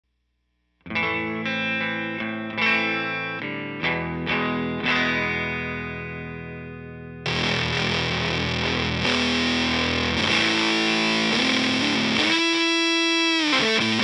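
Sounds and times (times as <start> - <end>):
electric guitar strumming chords: 0.8 - 14.0.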